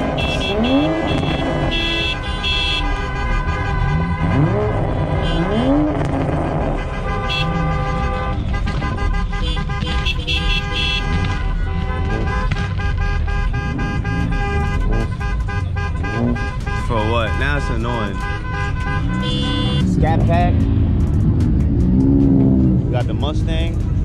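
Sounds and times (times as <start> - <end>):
car horns honking: 0.0 - 23.5
car engines revving: 0.0 - 24.0.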